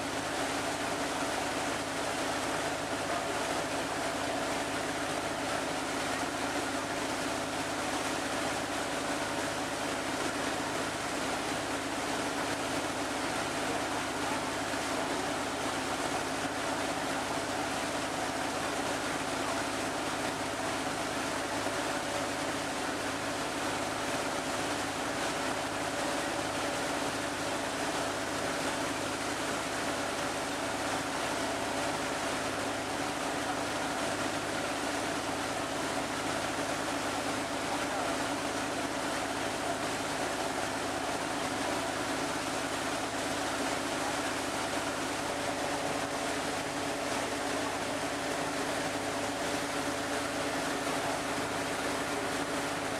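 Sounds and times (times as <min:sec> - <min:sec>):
water rushing along hull: 0:00.0 - 0:52.9.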